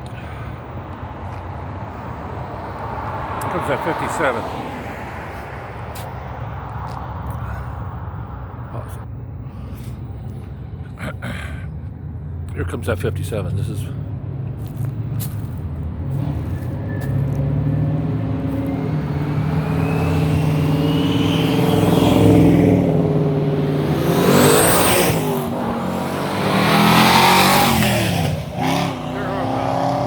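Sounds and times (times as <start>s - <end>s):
loud car engines passing by: 0.0s - 30.0s.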